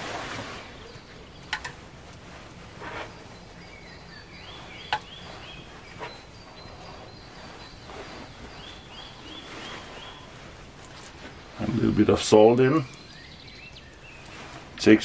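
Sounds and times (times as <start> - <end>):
bird calling: 0.2 - 14.8.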